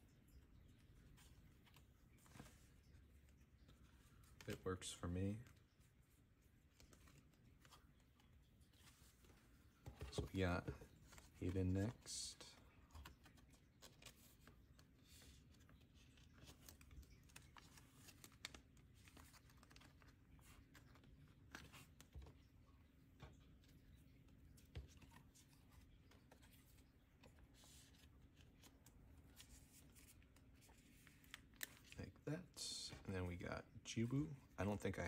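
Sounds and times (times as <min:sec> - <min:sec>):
plastic sleeves rustling and clicking: 0:00.0 - 0:33.1.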